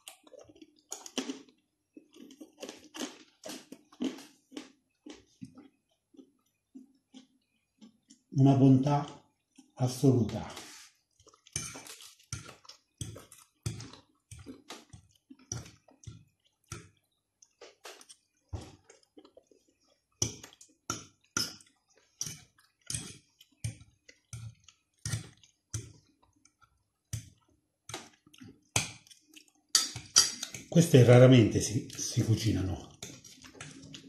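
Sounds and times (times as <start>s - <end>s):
person chewing food: 0.0s - 8.3s, 9.0s - 9.8s, 10.4s - 30.8s, 32.7s - 34.0s.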